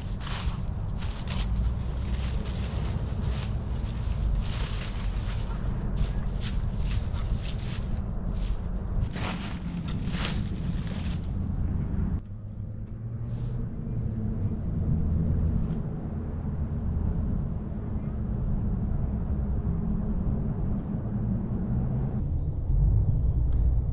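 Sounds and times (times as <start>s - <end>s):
low rumble: 0.0s - 23.9s.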